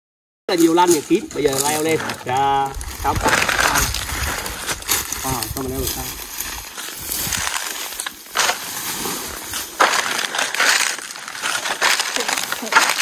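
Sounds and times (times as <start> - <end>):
dry leaves crunching underfoot: 0.5 - 13.0.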